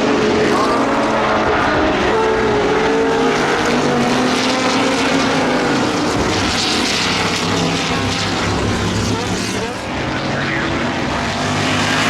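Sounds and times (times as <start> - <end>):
race car engine roaring: 0.0 - 12.0.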